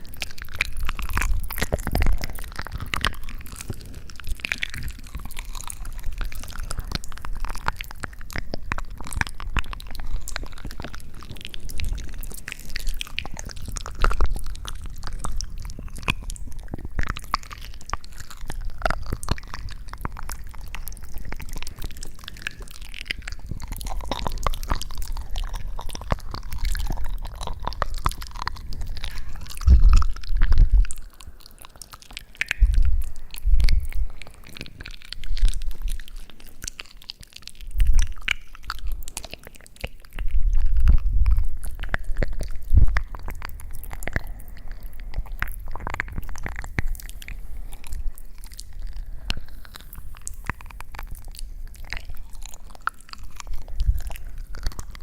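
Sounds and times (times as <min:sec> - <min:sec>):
close-miked crunching: 0:00.0 - 0:55.0.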